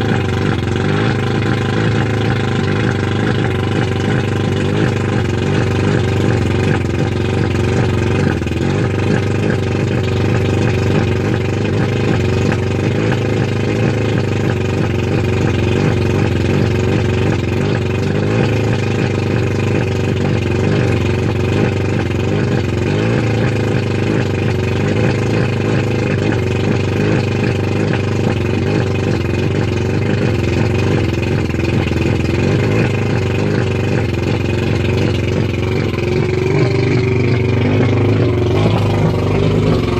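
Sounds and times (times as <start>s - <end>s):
outboard engine idling: 0.0s - 39.9s.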